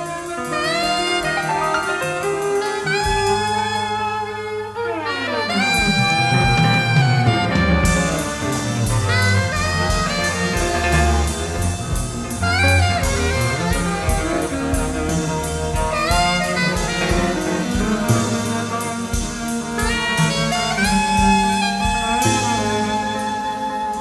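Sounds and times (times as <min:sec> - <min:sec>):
alto saxophone: 0:00.0 - 0:24.0
drums on ride cymbal: 0:00.0 - 0:24.0
walking acoustic bass: 0:00.0 - 0:24.0.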